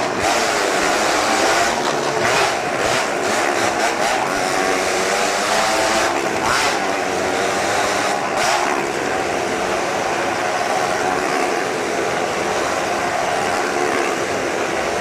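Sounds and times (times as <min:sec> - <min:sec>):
motorcycle engines running hard: 0:00.0 - 0:15.0.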